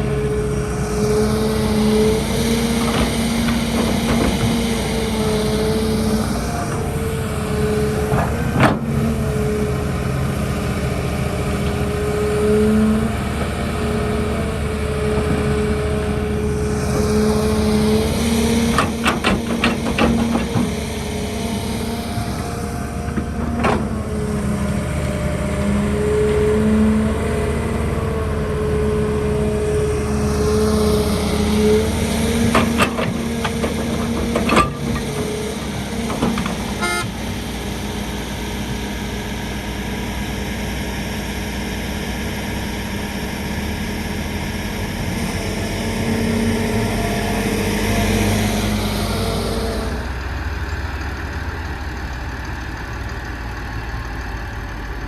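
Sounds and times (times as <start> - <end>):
diesel excavator engine humming: 0.0 - 55.0.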